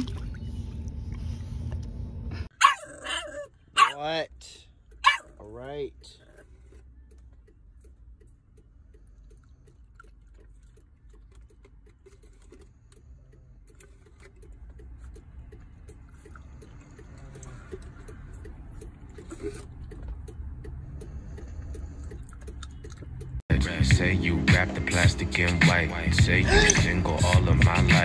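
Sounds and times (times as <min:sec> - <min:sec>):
low steady rumble: 0:00.0 - 0:27.9.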